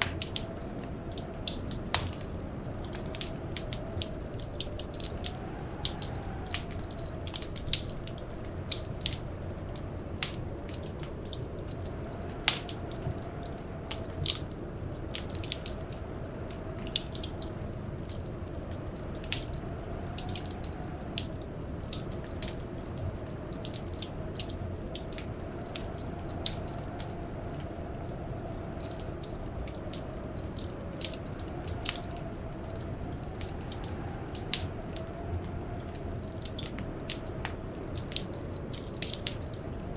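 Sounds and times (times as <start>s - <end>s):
howling blizzard wind: 0.0s - 39.9s
low rumble of flame: 0.0s - 39.9s
wood fire crackling: 0.0s - 39.9s.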